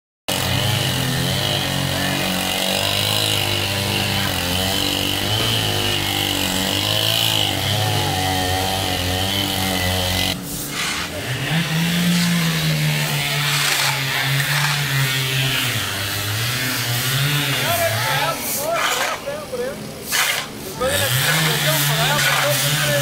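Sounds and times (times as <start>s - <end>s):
chainsaw running: 0.3s - 23.0s.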